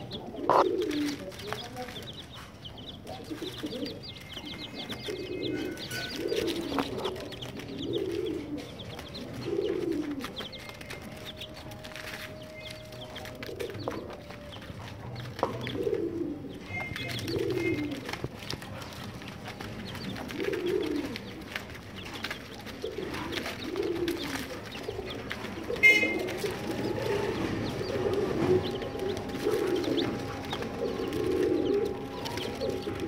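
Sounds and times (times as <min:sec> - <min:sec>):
chicks chirping: 0:00.0 - 0:33.0
chicks pecking on newspaper: 0:00.0 - 0:33.0
pigeon cooing: 0:00.0 - 0:33.0.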